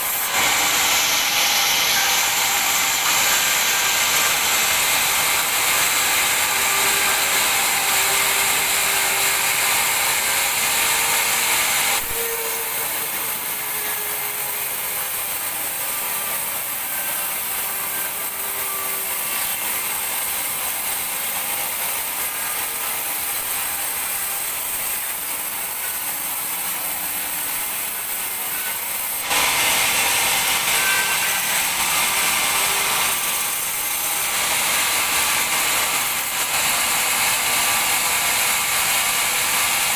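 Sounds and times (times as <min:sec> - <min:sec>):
bandsaw cutting log: 0:00.0 - 0:39.9.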